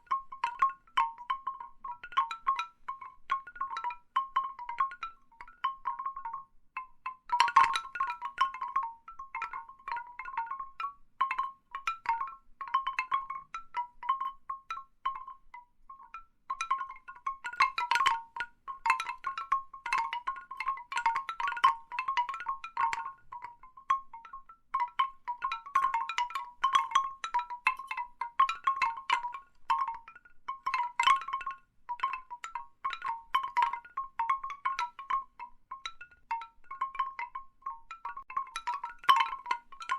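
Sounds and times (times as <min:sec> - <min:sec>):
bamboo wind chimes clonking: 0:00.0 - 0:39.9.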